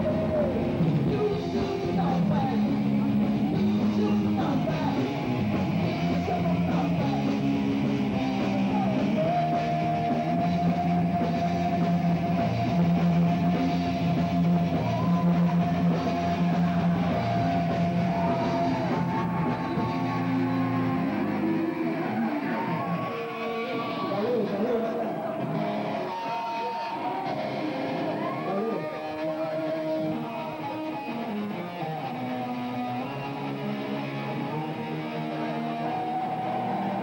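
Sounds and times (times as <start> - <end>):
heavy rock band playing: 0.0 - 37.0.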